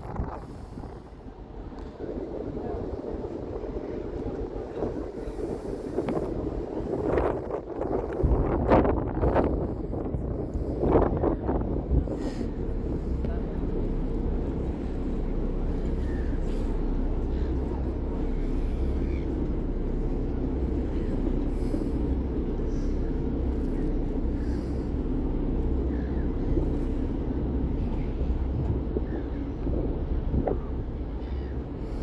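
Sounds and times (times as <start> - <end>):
vehicle rumble: 0.0 - 32.0.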